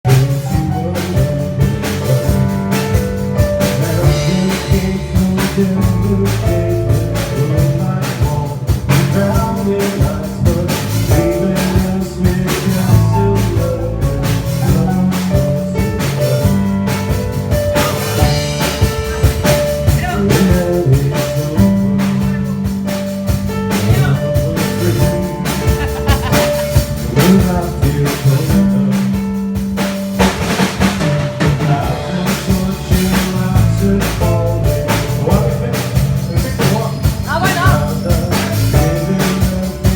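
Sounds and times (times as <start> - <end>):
band playing: 0.0 - 39.9
drum rimshots: 0.1 - 39.9.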